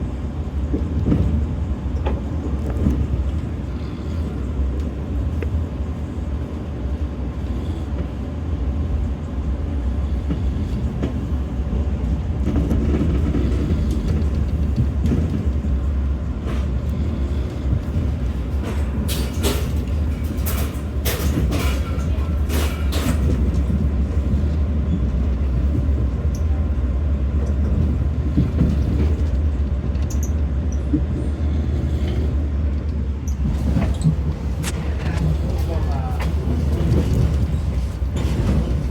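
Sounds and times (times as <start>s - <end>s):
train rumbling: 0.0s - 38.9s.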